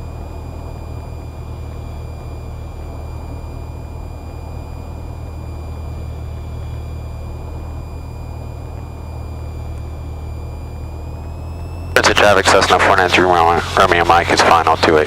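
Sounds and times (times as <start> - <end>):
airplane engine and propeller droning: 0.0 - 15.0
faint high-pitched whine: 0.0 - 15.0.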